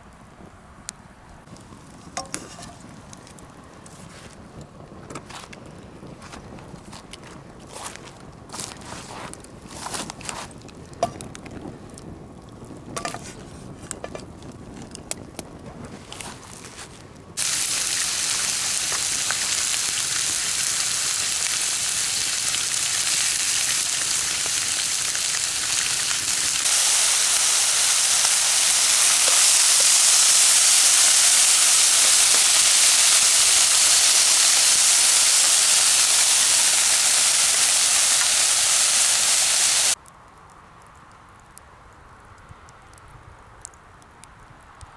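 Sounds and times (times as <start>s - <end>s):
chicken sizzling over fire: 1.4s - 41.5s.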